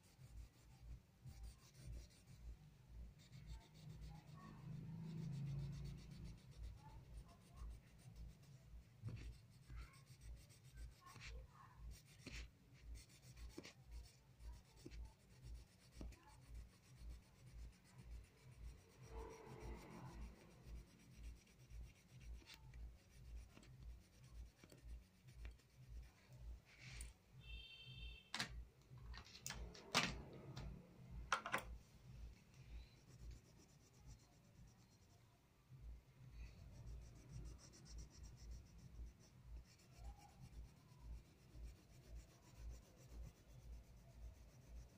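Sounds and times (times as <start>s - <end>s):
crayon rubbing on paper: 0.0s - 27.1s, 32.4s - 35.2s, 36.3s - 44.9s.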